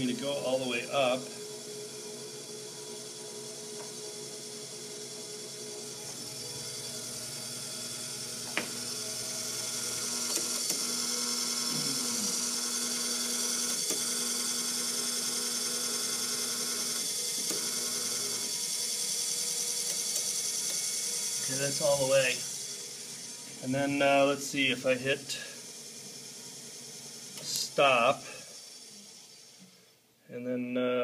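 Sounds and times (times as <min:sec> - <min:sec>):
electric motor whine: 0:00.0 - 0:29.9.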